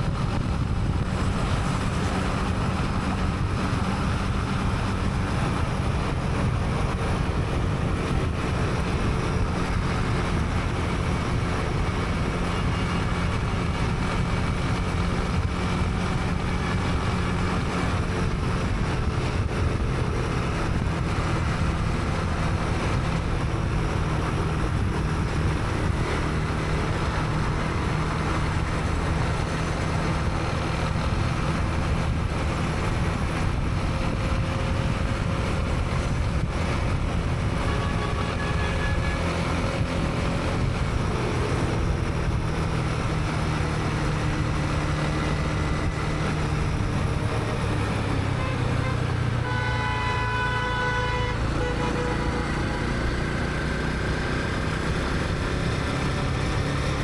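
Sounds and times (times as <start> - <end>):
motorcycle engine running: 0.0 - 57.0
road and traffic noise: 0.0 - 57.0.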